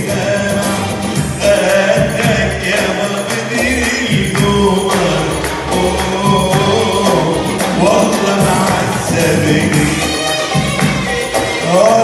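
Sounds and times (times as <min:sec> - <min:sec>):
man singing: 0:00.0 - 0:12.0
electronic keyboard with beat: 0:00.4 - 0:12.0.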